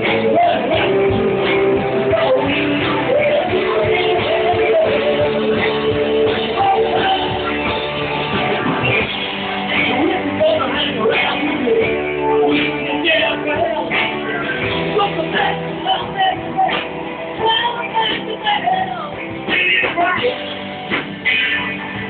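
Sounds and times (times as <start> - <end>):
drums: 0.0 - 22.0
electric guitar: 0.0 - 22.0
keyboard: 0.0 - 22.0
person singing: 0.0 - 22.0.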